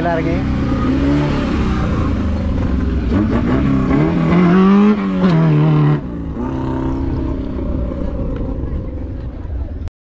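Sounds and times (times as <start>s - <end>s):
off-road vehicle engine revving: 0.0s - 9.4s.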